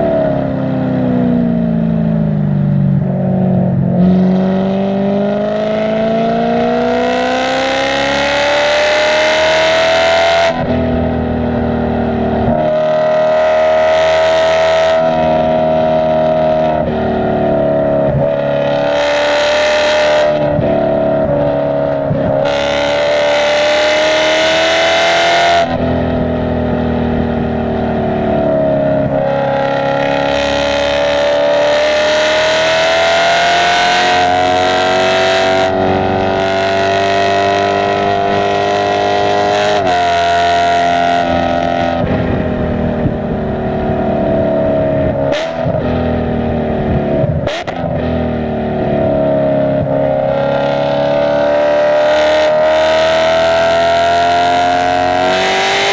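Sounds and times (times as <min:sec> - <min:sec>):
race car engine revving: 0:03.0 - 0:55.9.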